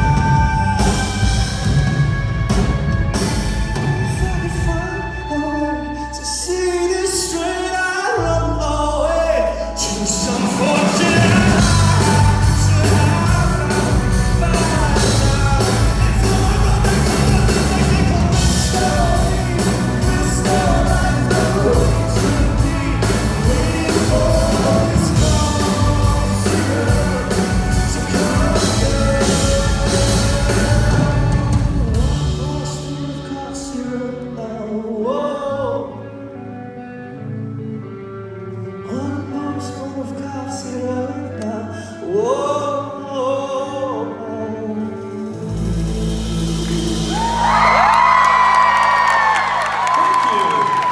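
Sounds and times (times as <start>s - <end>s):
man singing lead vocal: 0.0s - 2.2s, 3.9s - 36.4s, 38.8s - 45.9s
rock band playing: 0.0s - 7.8s, 9.4s - 38.8s, 44.0s - 50.9s.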